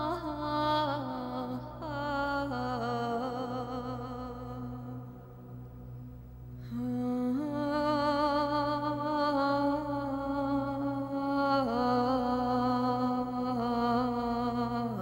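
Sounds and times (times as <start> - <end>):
wordless humming voice: 0.0 - 5.7, 6.6 - 15.0
steady low drone: 0.0 - 15.0.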